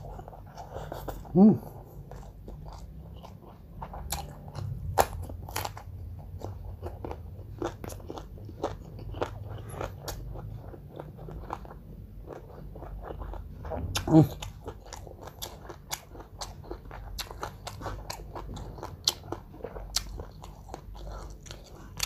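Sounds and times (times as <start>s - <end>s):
crunchy food chewing: 0.0s - 22.0s
low steady hum: 0.0s - 22.0s.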